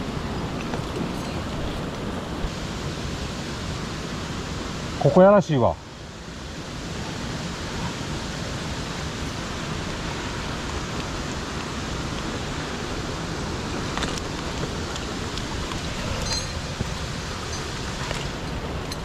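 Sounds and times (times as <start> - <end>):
stream water rushing over rocks: 0.0 - 19.0.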